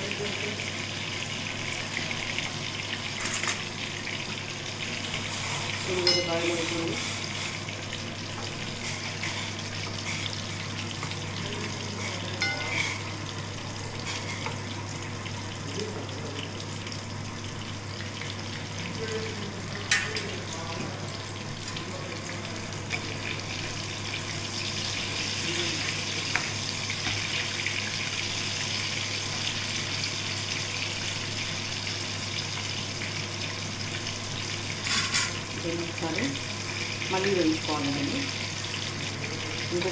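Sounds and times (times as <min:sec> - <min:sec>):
chillies deep-frying in oil: 0:00.0 - 0:39.9.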